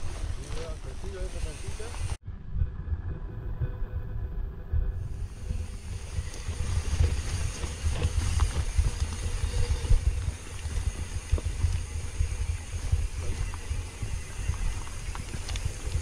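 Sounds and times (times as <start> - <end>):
bike rattling over rough ground: 0.0 - 2.2, 5.0 - 16.0
wind buffeting microphone: 0.0 - 16.0.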